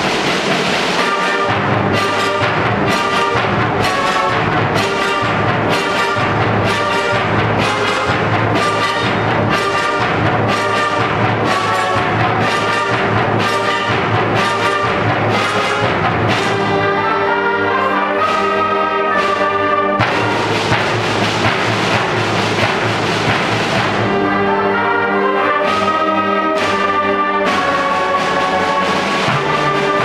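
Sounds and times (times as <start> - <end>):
concert band playing: 0.0 - 30.0
timpani: 0.0 - 30.0.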